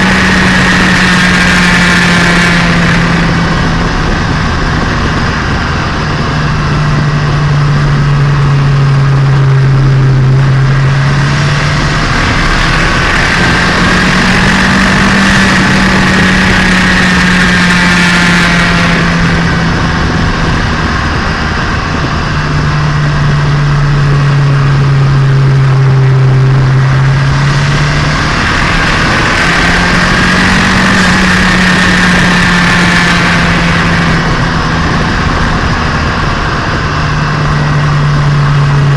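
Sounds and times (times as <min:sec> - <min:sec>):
car engine running: 0:00.0 - 0:38.9
road and wind noise: 0:00.0 - 0:38.9.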